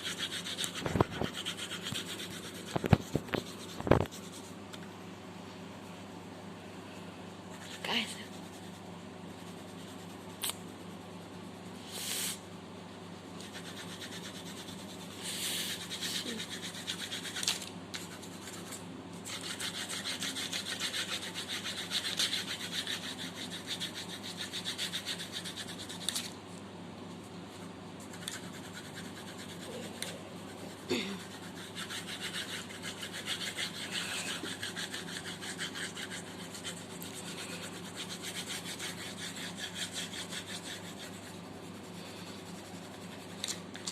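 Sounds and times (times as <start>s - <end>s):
pencil scratching on paper: 0.0s - 4.6s, 7.5s - 11.8s, 13.4s - 26.3s, 27.4s - 43.8s
low background hum: 0.0s - 43.9s.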